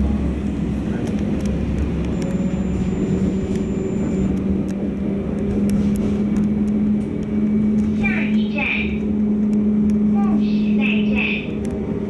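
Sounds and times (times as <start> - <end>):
tram electric hum: 0.0 - 12.0
tram running noise: 0.0 - 12.0.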